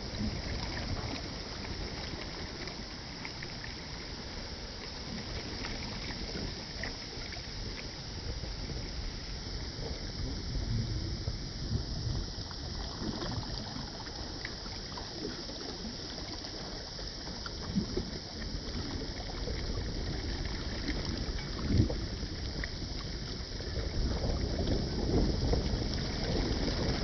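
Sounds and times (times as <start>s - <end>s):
water rushing along hull: 0.0s - 27.0s.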